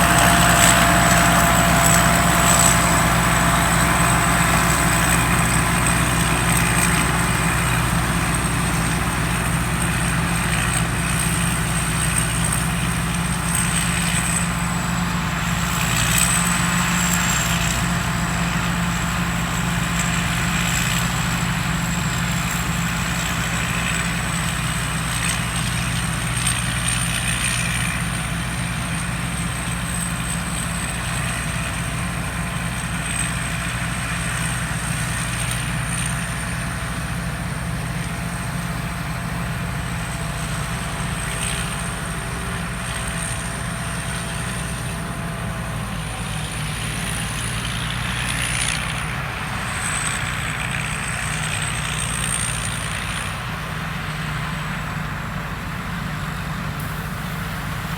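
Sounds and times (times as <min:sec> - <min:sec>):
diesel engine drone: 0:00.0 - 0:57.9.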